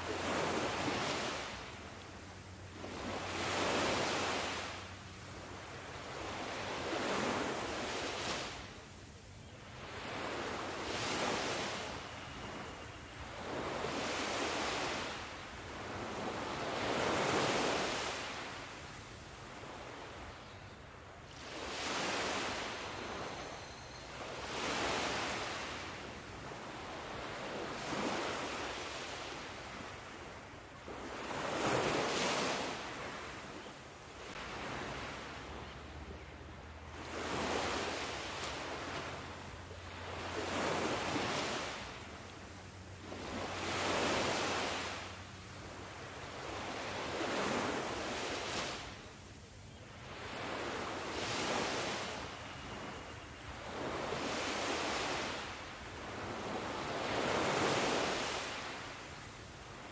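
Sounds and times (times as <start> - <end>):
sea waves breaking on shore: 0.0 - 9.0, 9.7 - 20.3, 21.0 - 49.3, 50.0 - 59.9.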